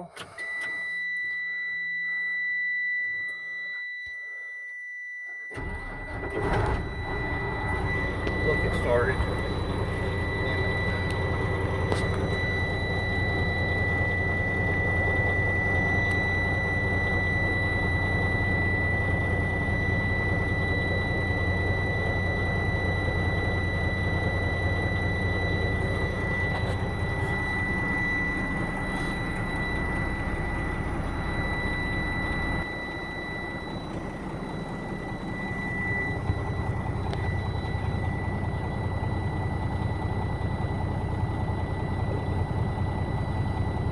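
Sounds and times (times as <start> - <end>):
high-pitched whine: 5.3 - 43.9
diesel truck engine idling: 5.5 - 43.9.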